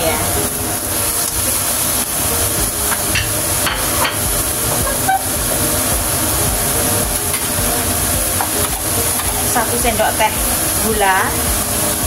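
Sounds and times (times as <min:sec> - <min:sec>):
meat sizzling in a wok: 0:00.0 - 0:12.0
popping in the wok: 0:00.8 - 0:12.0.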